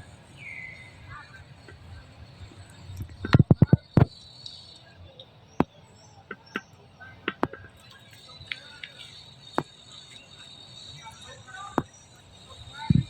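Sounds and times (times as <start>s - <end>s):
faint high chirps: 0.0s - 13.0s.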